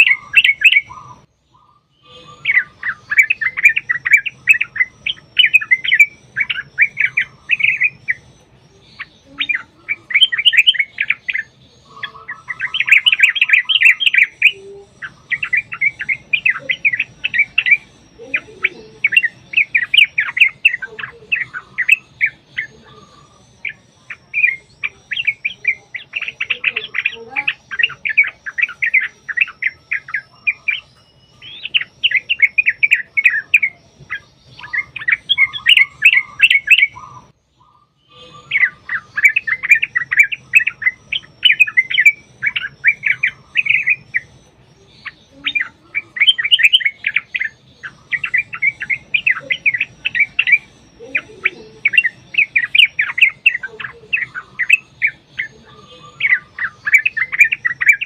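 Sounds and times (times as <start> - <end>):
bulbuls singing chattering notes: 0.0 - 58.0
low buzzy bird trill: 0.0 - 58.0.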